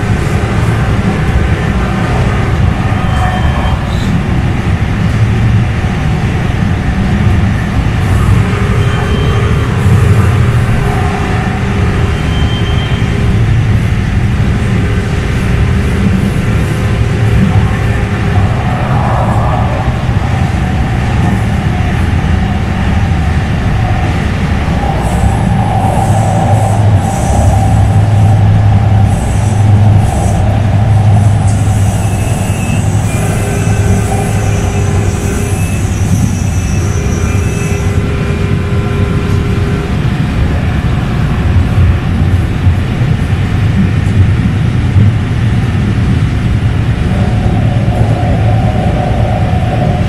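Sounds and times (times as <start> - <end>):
light-rail train rumbling on track: 0.0 - 50.0.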